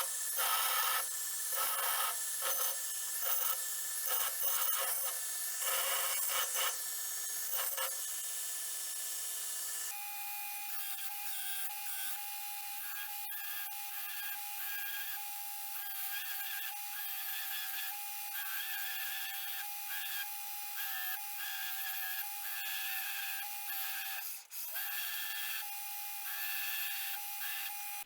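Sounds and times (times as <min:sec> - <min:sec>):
grinder on steel blade: 0:00.0 - 0:28.0.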